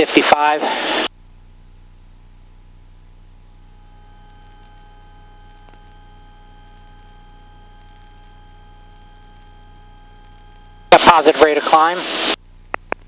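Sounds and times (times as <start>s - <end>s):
high whine: 0.2s - 13.0s
thin steady whine tones: 1.0s - 13.0s.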